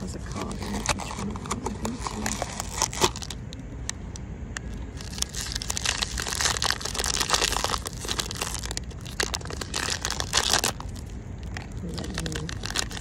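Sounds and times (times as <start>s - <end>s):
plastic wrapper crinkling and tearing: 0.0s - 3.6s, 4.6s - 13.0s.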